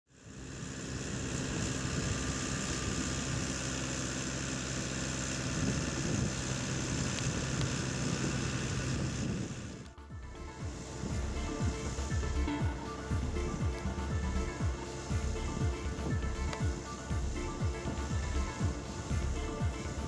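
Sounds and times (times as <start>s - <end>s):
tractor diesel engine running: 0.1s - 20.0s.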